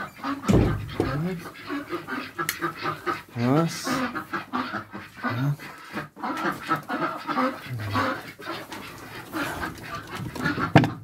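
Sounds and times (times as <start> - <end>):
ducks giving short low calls: 0.2 - 10.7.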